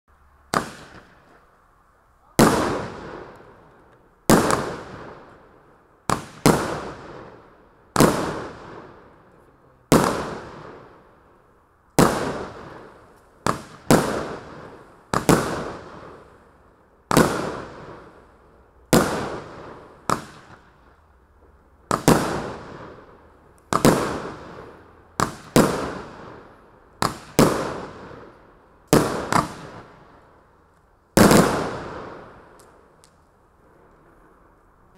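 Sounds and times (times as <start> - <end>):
firework bangs: 0.4 - 1.6, 2.3 - 11.4, 12.0 - 30.5, 31.1 - 34.4.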